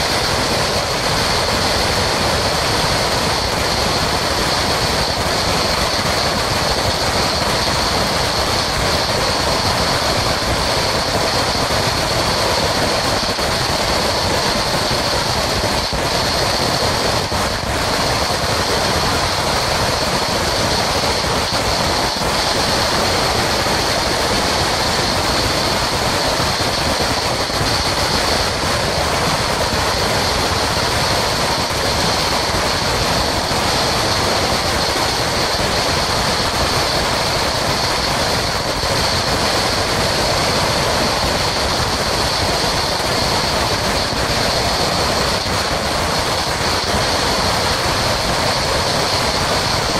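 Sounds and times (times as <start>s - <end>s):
string of firecrackers crackling: 0.0s - 49.9s.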